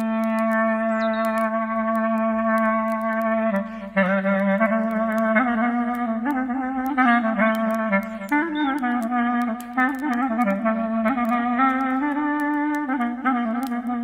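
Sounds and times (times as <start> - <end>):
campfire crackling: 0.0 - 14.0
clarinet playing slow melody: 0.0 - 14.0.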